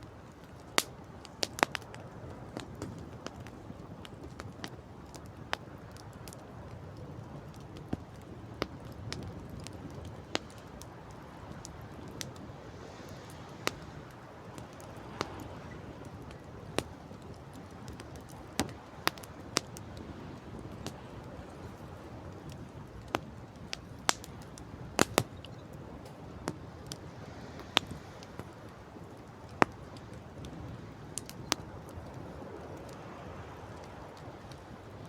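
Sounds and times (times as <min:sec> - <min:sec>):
campfire crackling and popping: 0:00.0 - 0:35.0
sea: 0:00.0 - 0:35.0
wind: 0:00.0 - 0:35.0.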